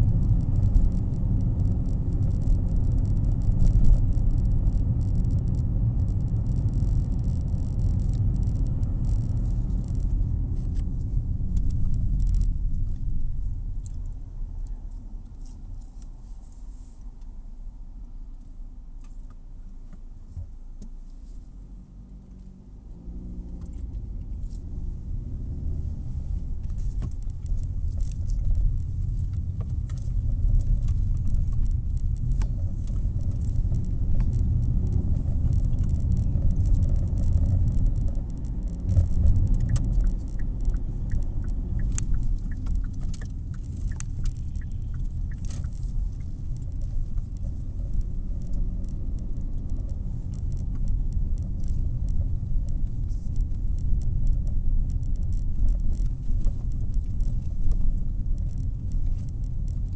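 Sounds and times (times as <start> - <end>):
interior rattles and clicks: 0.0 - 16.2, 23.3 - 59.9
car engine and tyre rumble: 0.0 - 59.9.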